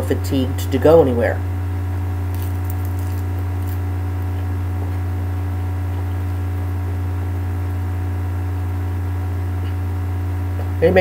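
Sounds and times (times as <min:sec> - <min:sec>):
steady low hum with hiss: 0:00.0 - 0:11.0.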